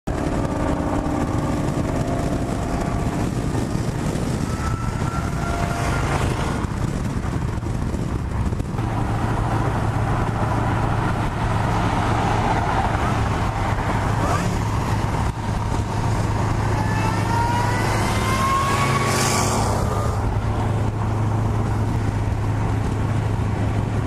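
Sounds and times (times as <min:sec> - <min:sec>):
car engine running loudly: 0:00.0 - 0:24.0.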